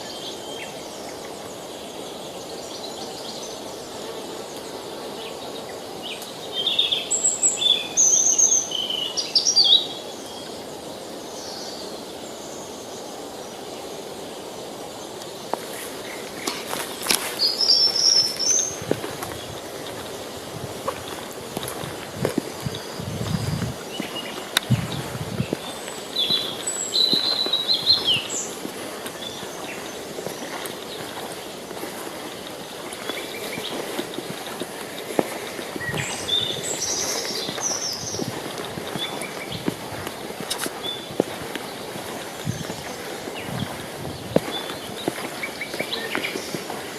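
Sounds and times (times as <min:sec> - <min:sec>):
songbird chirping and trilling: 0:00.0 - 0:13.9, 0:15.0 - 0:46.9
river rushing: 0:00.0 - 0:46.9.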